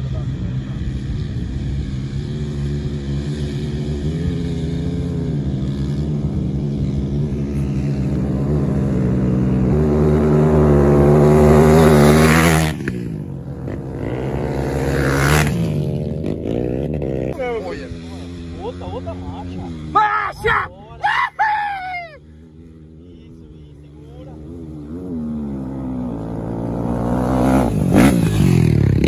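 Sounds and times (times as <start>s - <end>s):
dirt bike engine revving: 0.0s - 20.7s, 21.4s - 29.0s.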